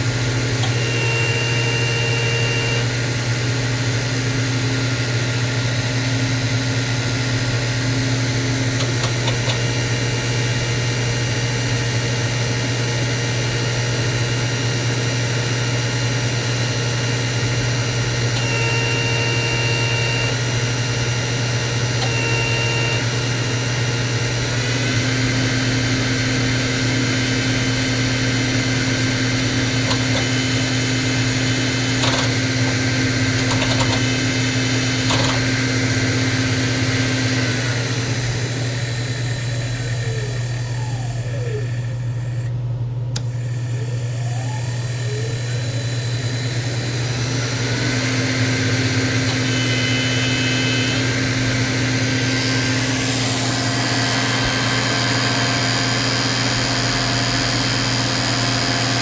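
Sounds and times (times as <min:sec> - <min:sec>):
machine humming and whining: 0:00.0 - 0:59.0.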